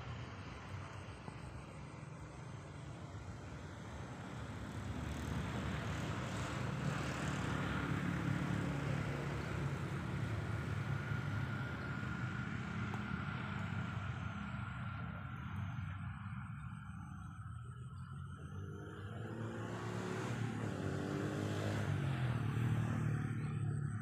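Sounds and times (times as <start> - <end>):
thin steady whine: 0.0 - 21.0
distant engine droning: 0.0 - 24.0.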